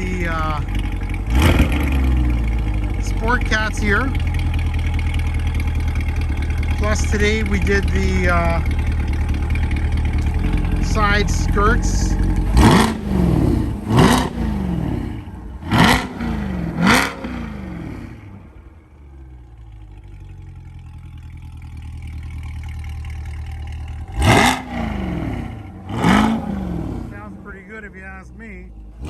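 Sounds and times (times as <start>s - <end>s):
car engine idling: 0.0s - 29.0s
car engine revving: 0.0s - 29.0s.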